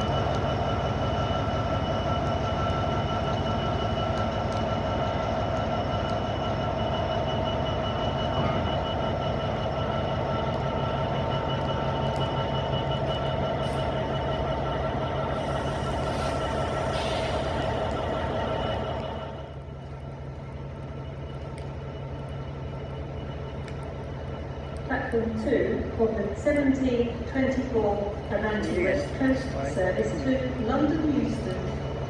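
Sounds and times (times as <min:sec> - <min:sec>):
constant whine of held tones: 0:00.0 - 0:32.0
train low rumble: 0:00.0 - 0:32.0.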